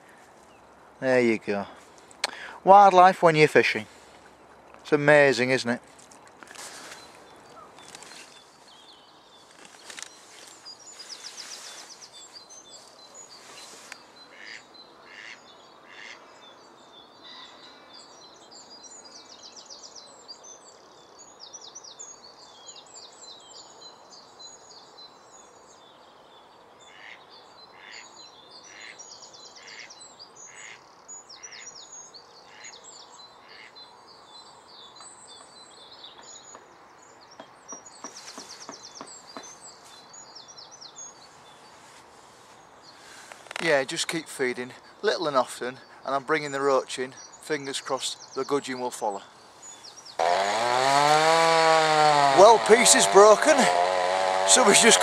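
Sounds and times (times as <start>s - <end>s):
evenly spaced bird calls: 0.0s - 55.0s
songbirds chirping and trilling: 0.0s - 55.0s.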